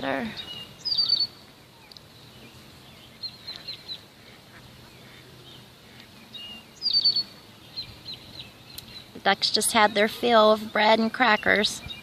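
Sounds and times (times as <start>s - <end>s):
faint outdoor background noise: 0.0s - 12.0s
small birds chirping: 0.0s - 12.0s.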